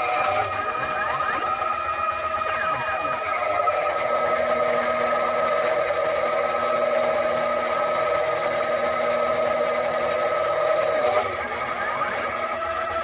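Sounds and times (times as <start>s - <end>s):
metal lathe whining: 0.0s - 13.0s.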